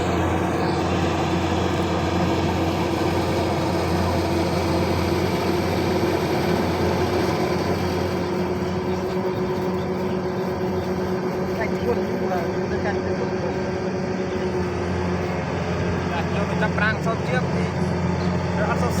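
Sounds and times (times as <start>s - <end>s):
harvester engine running: 0.0s - 19.0s.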